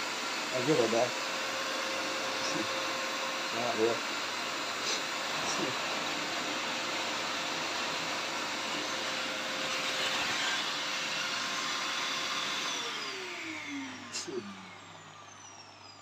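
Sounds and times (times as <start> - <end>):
vacuum cleaner running on carpet: 0.0 - 16.0.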